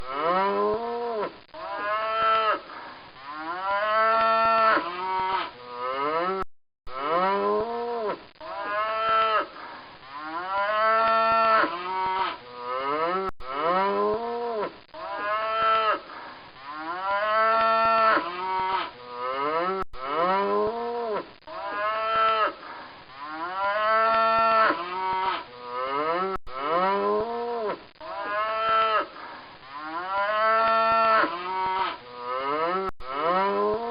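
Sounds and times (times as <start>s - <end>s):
cow mooing: 0.0s - 2.7s, 3.3s - 9.5s, 10.1s - 16.0s, 16.6s - 22.6s, 23.2s - 29.1s, 29.7s - 33.9s.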